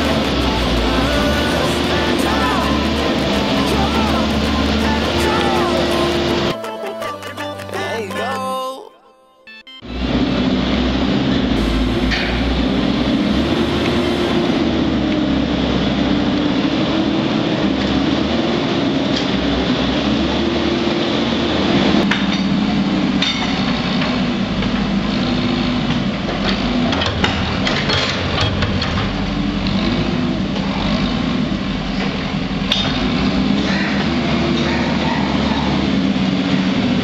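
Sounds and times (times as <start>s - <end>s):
loader engine under load: 0.0s - 6.6s, 9.8s - 37.0s.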